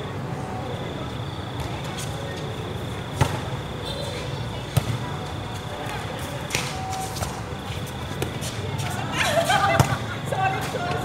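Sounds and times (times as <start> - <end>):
background noise: 0.0 - 11.0.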